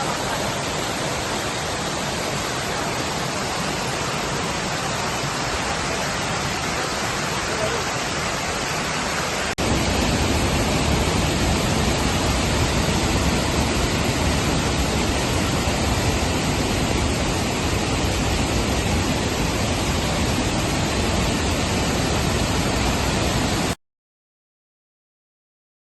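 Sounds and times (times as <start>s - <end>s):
falling water rushing: 0.0s - 23.8s.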